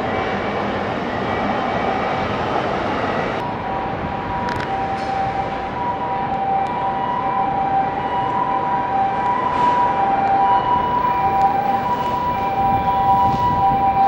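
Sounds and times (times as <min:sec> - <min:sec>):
railway station platform noise: 0:00.0 - 0:14.0.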